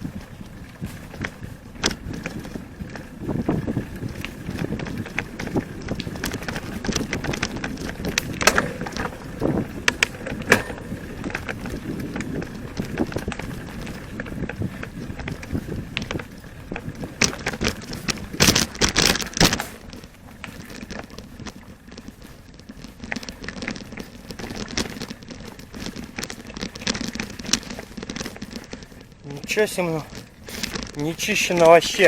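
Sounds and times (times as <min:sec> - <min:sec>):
knocks and crackling of branches: 0:00.0 - 0:32.0.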